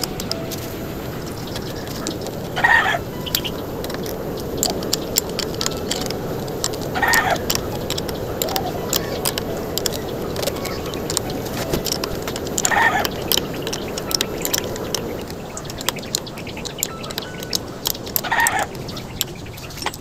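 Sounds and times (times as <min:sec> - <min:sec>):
bird calls: 0:00.0 - 0:20.0
hand tool clicking on bolts: 0:00.0 - 0:20.0.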